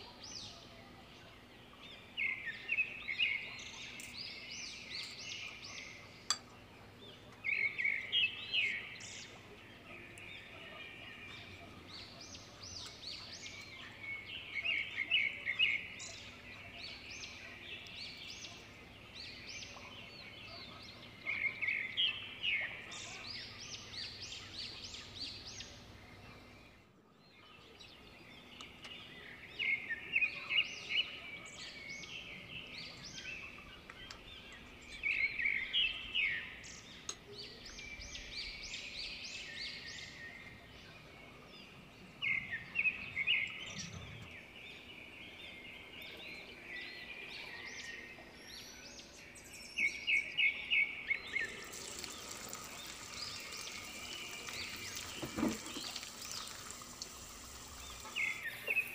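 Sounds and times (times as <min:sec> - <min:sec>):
birds chirping: 0:00.0 - 0:26.9, 0:27.5 - 0:58.9.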